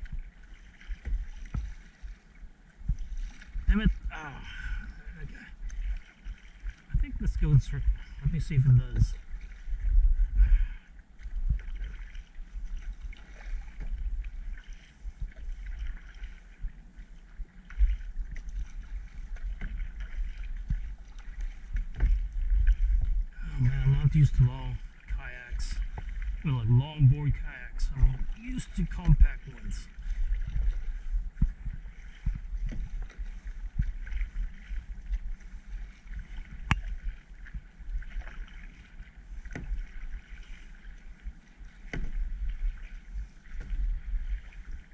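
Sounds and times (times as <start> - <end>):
water splashing around paddle: 0.0 - 44.9
wind rumble on microphone: 0.0 - 44.9.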